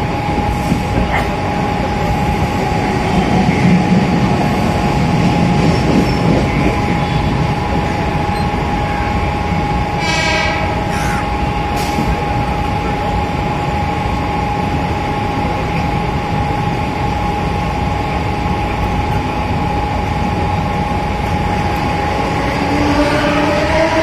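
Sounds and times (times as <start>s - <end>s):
electric train running at speed: 0.0s - 24.0s
passing train: 0.0s - 24.0s.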